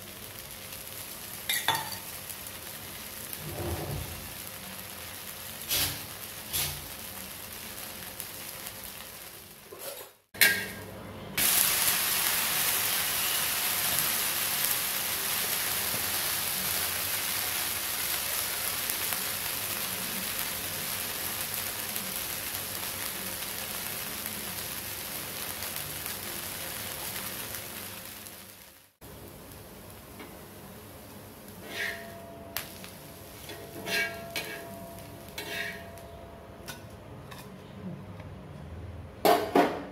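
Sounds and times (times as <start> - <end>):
batter sizzling on griddle: 0.0 - 37.4.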